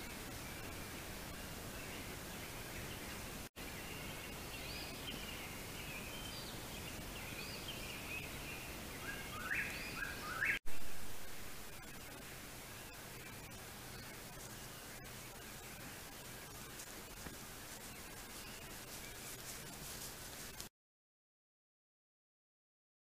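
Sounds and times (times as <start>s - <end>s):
birds calling at night: 0.0s - 11.0s, 11.6s - 20.5s
steady hiss: 0.0s - 20.7s.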